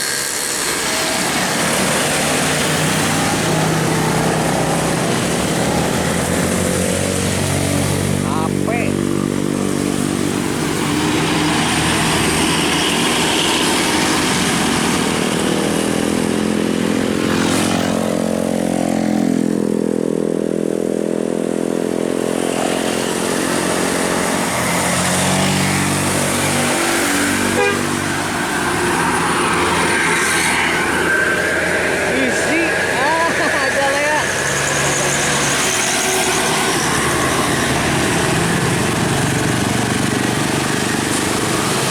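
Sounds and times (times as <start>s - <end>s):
heavy vehicle engine running: 0.0s - 19.6s, 21.5s - 41.9s
traffic passing: 0.0s - 41.9s.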